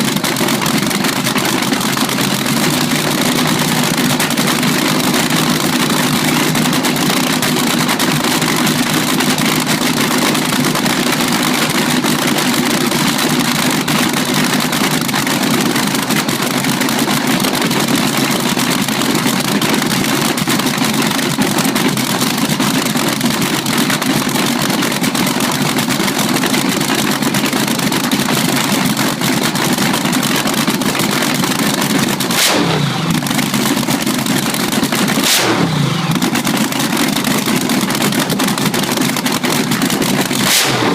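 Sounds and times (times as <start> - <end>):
race car engine idling: 0.0 - 40.9.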